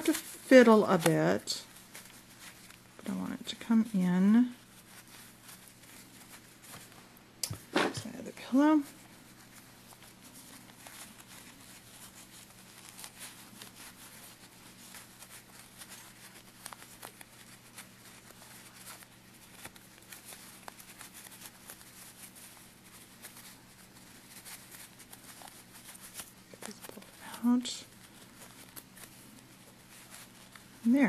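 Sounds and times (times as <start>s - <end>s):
cloth rustling and scratching: 0.0s - 31.0s.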